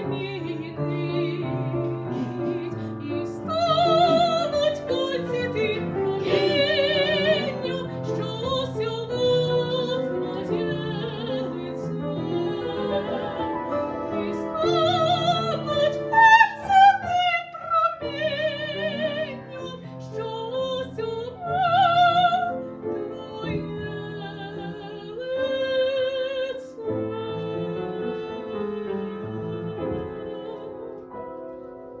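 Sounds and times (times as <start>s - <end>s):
woman singing operatically: 0.0s - 30.9s
piano: 0.0s - 32.0s.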